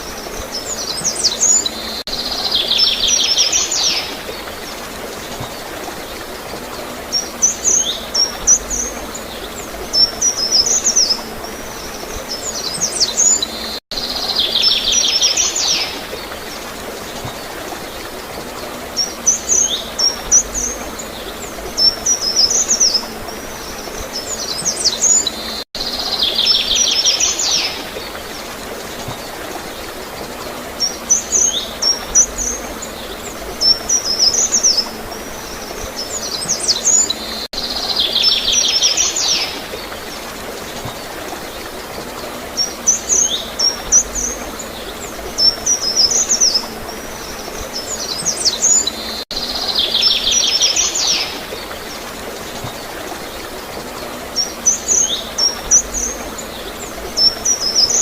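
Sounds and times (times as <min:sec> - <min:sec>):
flowing water gurgling: 0:00.0 - 0:58.0
songbirds chirping: 0:00.0 - 0:58.0.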